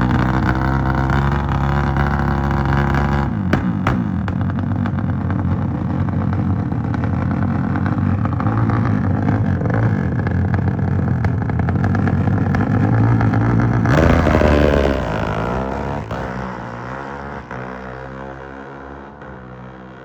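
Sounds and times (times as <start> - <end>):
motorcycle engine revving high: 0.0 - 20.0.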